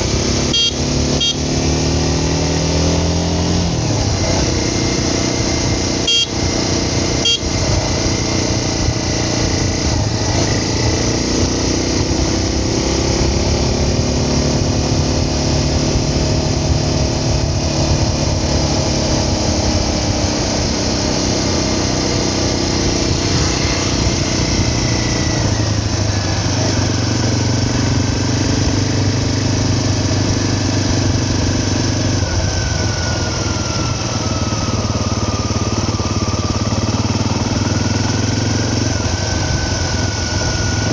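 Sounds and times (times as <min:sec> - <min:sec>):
vehicle engine running: 0:00.0 - 0:40.9
wind and road noise: 0:00.0 - 0:40.9.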